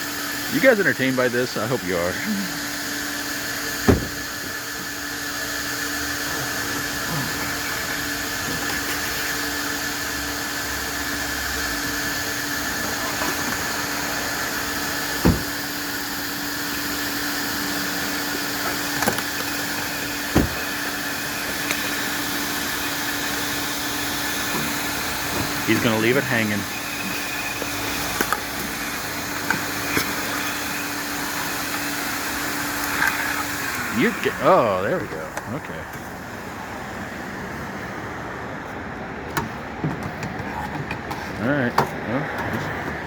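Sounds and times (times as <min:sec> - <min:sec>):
vacuum humming: 0:00.0 - 0:39.3.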